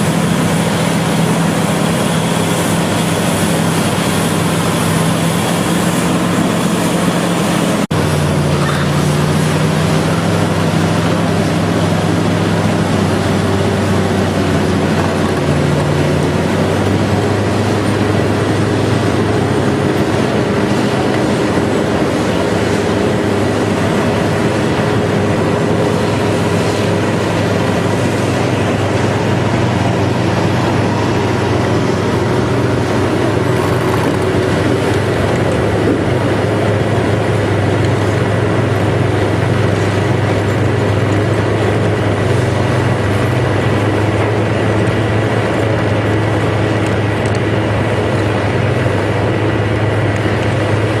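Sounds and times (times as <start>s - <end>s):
bulldozer engine running: 0.0s - 51.0s.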